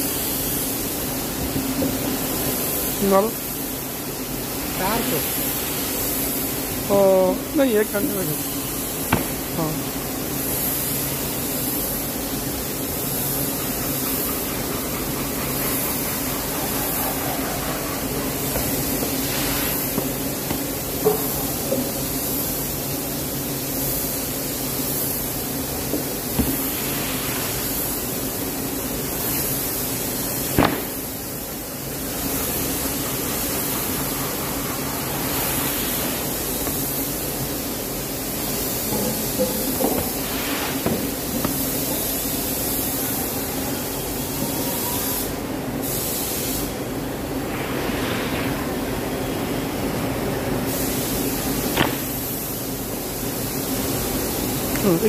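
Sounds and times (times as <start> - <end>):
droning hum and hiss: 0.0 - 55.0.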